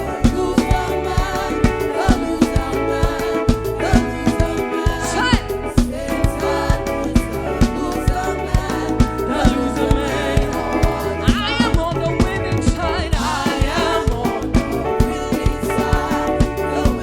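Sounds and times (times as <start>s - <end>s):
drums fast beat: 0.0s - 17.0s
keyboard chords: 0.0s - 17.0s
person singing vocal runs: 0.0s - 17.0s.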